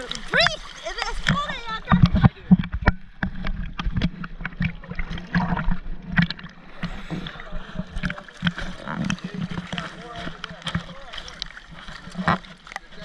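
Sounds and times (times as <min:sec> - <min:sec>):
sea water splashing against camera: 0:00.0 - 0:13.0
water gurgling: 0:00.0 - 0:13.0.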